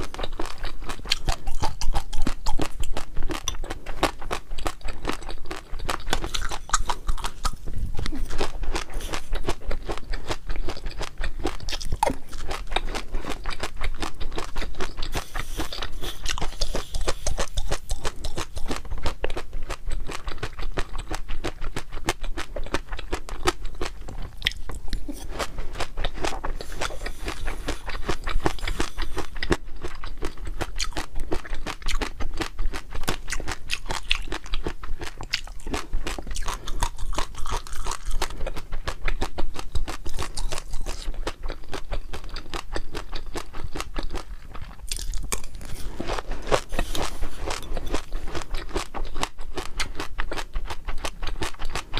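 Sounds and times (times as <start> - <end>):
chewing crisp food: 0.0 - 51.9.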